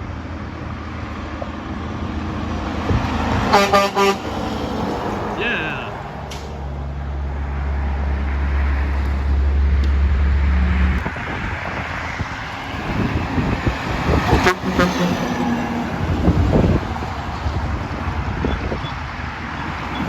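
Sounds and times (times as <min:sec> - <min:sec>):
traffic road noise: 0:00.0 - 0:20.0
truck engine drone: 0:00.0 - 0:20.0.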